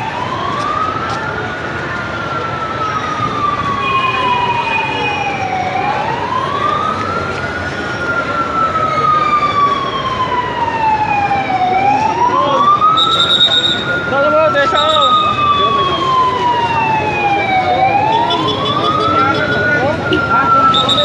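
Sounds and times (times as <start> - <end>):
emergency siren wailing: 0.0 - 21.0
higher siren wailing: 0.0 - 21.0.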